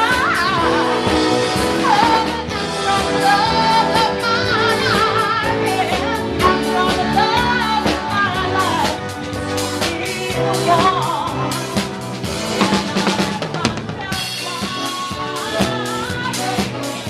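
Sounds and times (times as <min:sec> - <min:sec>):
live band playing: 0:00.0 - 0:17.0
steady drum beat: 0:00.0 - 0:17.0.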